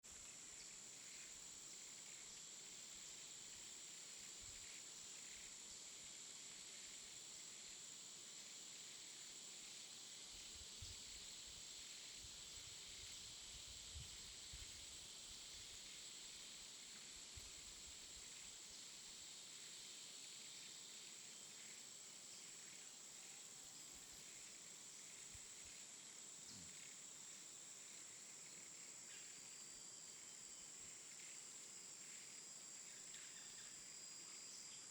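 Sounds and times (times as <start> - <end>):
insects chirring: 0.2 - 34.9.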